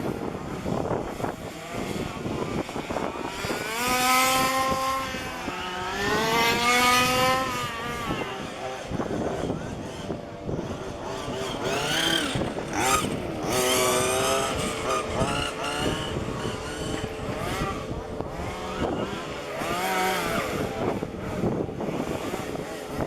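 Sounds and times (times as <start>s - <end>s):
rc car engines revving: 0.0s - 23.0s.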